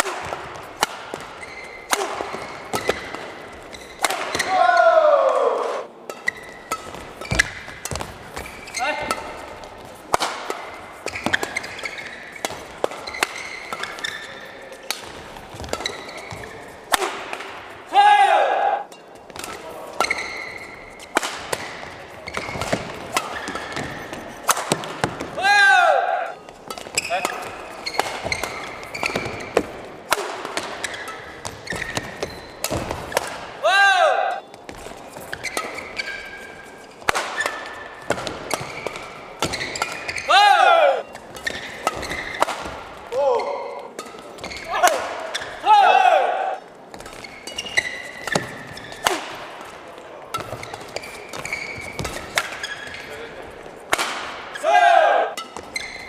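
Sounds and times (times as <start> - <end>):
shoes squeaking on court floor: 0.0 - 4.6, 6.0 - 17.7, 18.9 - 25.4, 26.3 - 33.3, 34.3 - 45.7, 46.6 - 54.6, 55.3 - 56.0
racket hitting shuttlecock: 0.0 - 17.9, 18.8 - 25.4, 26.0 - 53.2, 53.8 - 56.0.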